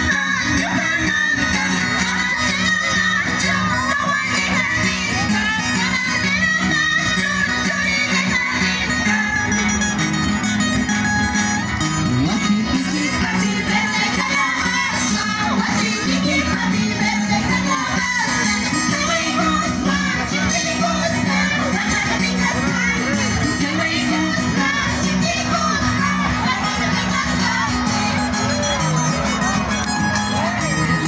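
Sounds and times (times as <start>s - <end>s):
strummed guitars: 0.0s - 31.0s.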